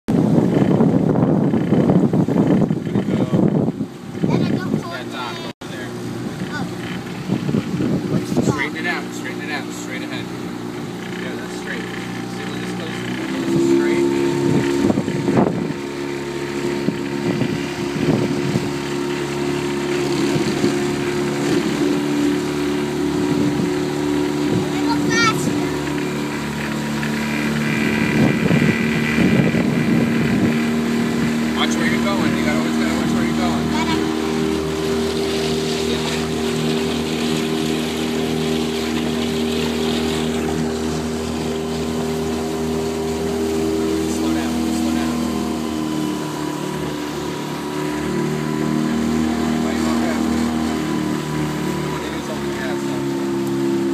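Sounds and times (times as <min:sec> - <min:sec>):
motorboat engine running: 0:00.1 - 0:53.9.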